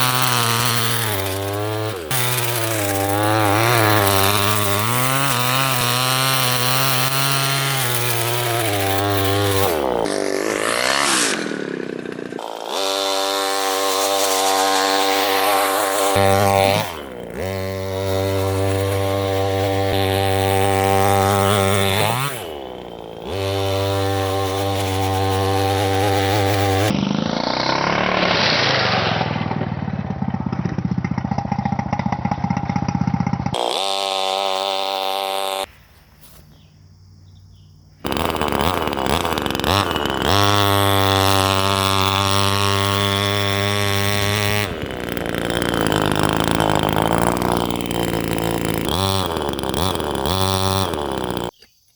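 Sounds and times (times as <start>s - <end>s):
two-stroke engine at high revs: 0.0s - 36.6s, 37.8s - 51.6s.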